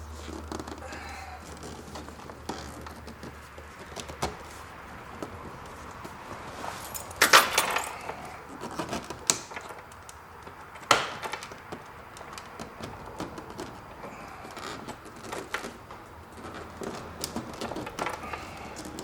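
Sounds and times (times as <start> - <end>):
tools and plastic trim clattering: 0.3 - 19.0.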